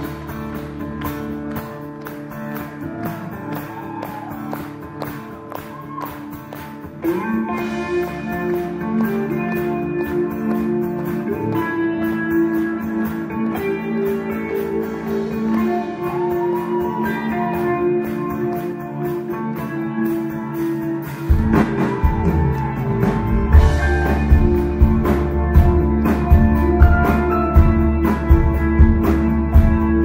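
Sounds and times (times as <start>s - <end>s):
bass guitar: 0.0s - 30.0s
drums: 0.0s - 30.0s.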